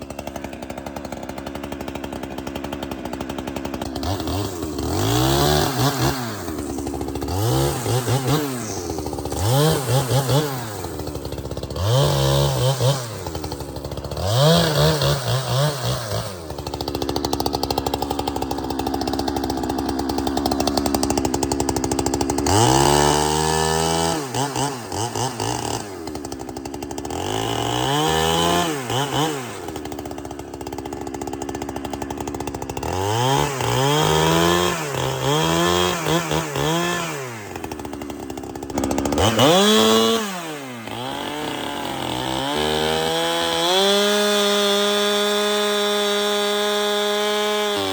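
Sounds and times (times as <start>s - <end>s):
chainsaw cutting firewood: 0.0s - 47.9s.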